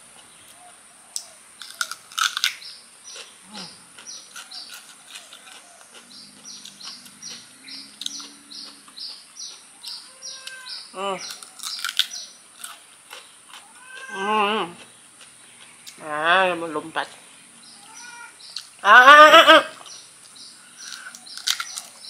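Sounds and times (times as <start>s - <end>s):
bird chirping: 0.0s - 22.0s
crunching bites into fruit: 0.2s - 16.0s, 19.8s - 22.0s.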